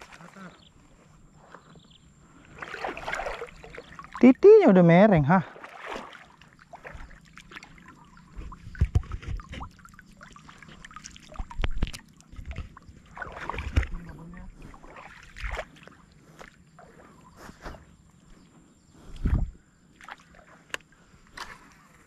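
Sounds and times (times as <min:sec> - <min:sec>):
water splashing and sloshing: 0:00.0 - 0:18.4, 0:19.1 - 0:22.0.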